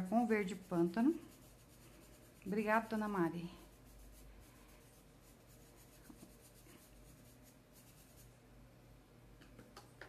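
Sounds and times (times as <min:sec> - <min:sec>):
paintbrush scratching on cloth: 0:00.0 - 0:08.4.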